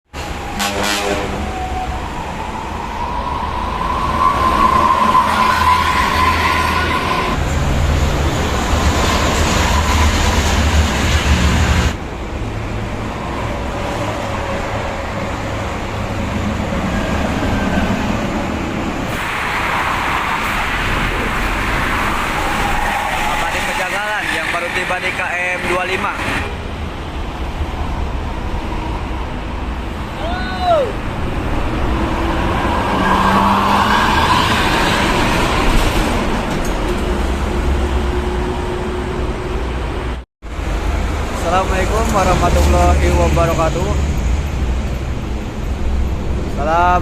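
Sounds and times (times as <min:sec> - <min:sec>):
buses passing at speed: 0:00.0 - 0:47.0.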